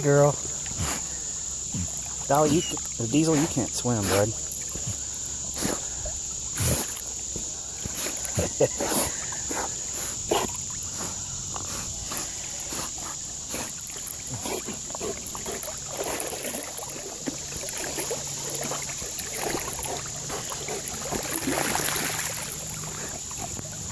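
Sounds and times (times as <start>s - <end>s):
dogs splashing in river water: 0.0s - 23.9s.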